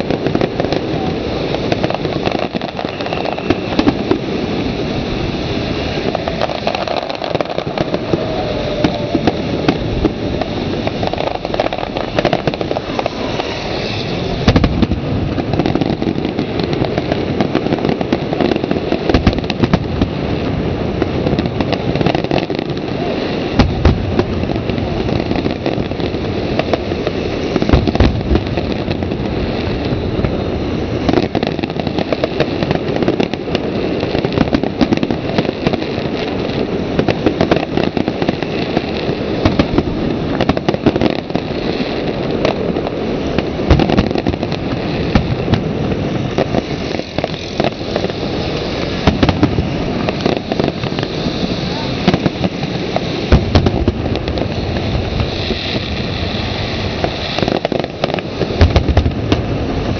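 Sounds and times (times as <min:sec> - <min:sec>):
firework shells booming: 0:00.0 - 0:59.9
fireworks crackling: 0:00.0 - 0:59.9.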